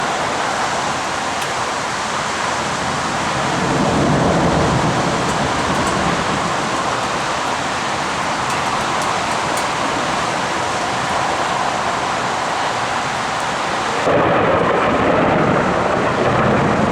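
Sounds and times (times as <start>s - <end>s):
heavy rain hissing: 0.0s - 16.9s.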